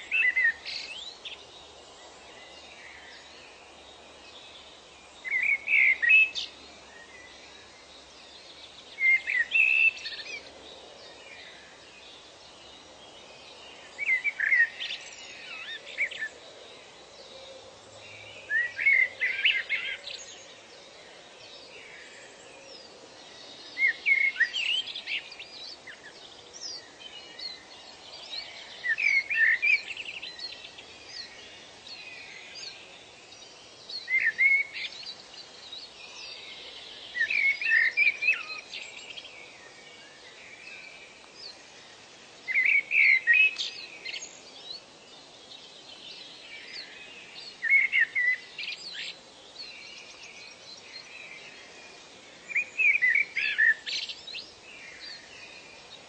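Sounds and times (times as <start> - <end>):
natural ambience hiss: 0.0 - 56.0
songbird chirping song: 0.0 - 56.0.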